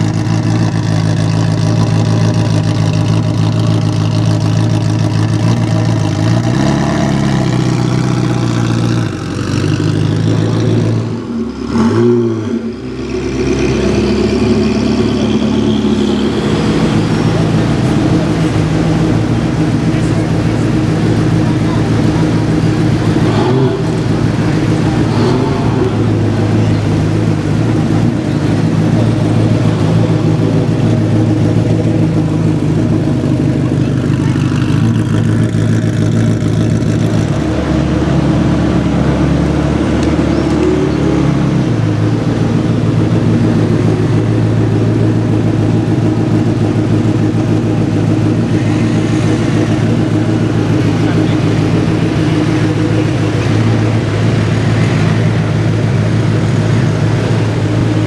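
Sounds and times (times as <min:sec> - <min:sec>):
car engine idling loudly: 0:00.0 - 0:58.0.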